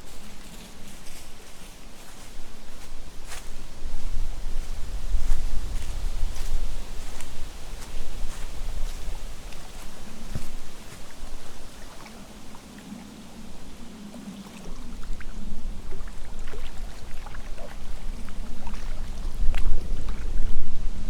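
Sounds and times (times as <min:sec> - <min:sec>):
leaves rustling and crackling: 0:00.0 - 0:21.0
wind buffeting microphone: 0:00.0 - 0:21.0.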